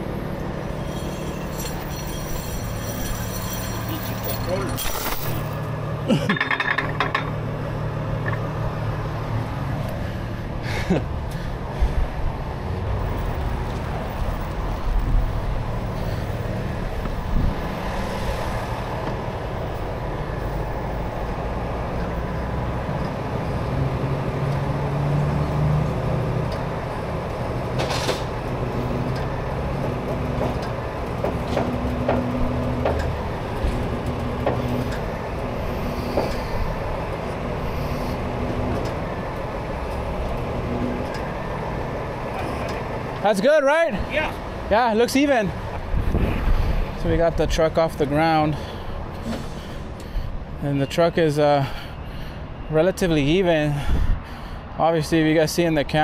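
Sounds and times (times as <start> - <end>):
diesel engine under hydraulic load: 0.0 - 44.7, 45.5 - 52.7, 53.5 - 54.8.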